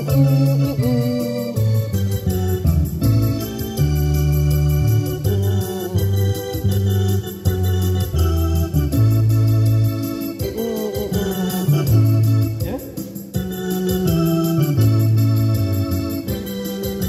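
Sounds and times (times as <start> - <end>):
keyboard organ chords: 0.0 - 17.0.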